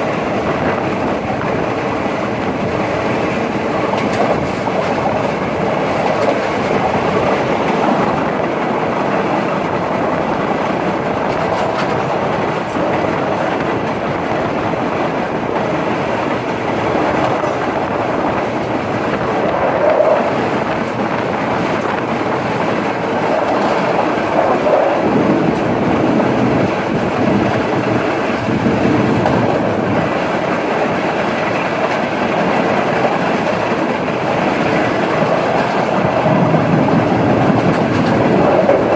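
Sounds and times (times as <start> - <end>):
rail joint clicks: 0.0 - 38.9
train wheels rumbling on rails: 0.0 - 38.9.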